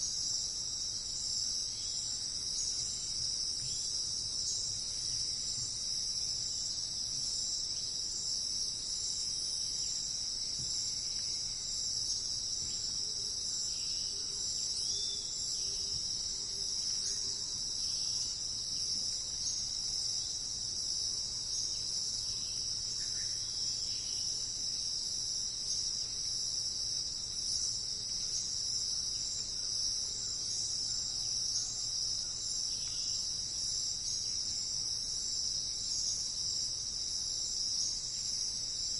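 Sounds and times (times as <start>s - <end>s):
high-pitched insect chorus trilling: 0.0s - 38.9s.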